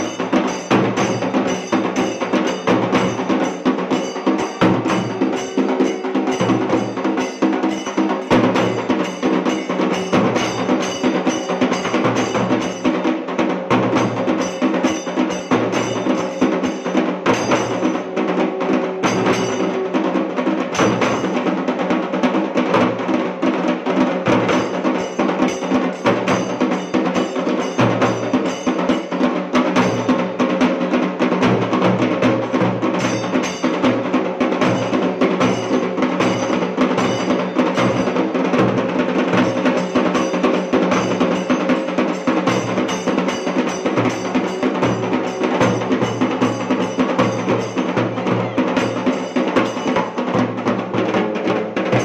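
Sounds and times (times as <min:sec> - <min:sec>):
barrel drums beaten with sticks: 0:00.0 - 0:52.0.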